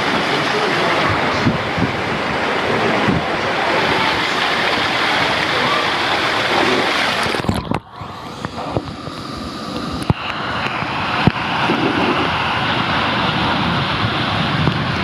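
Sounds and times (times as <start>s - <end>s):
water rushing through slide tube: 0.0s - 15.0s.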